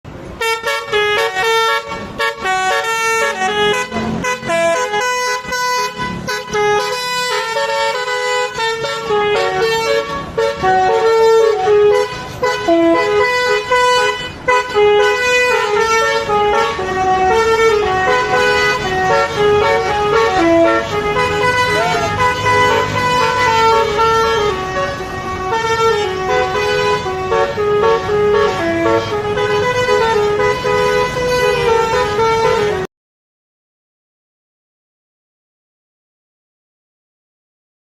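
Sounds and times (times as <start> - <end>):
musical bus horn melody: 0.1 - 32.9.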